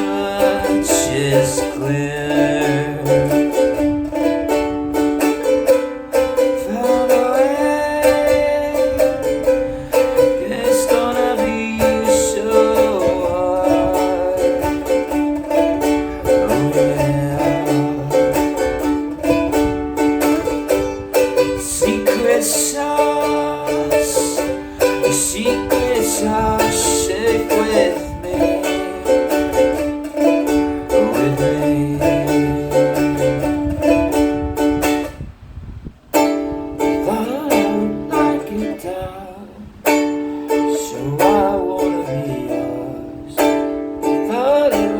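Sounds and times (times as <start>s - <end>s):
plucked string instrument tune: 0.0s - 44.9s.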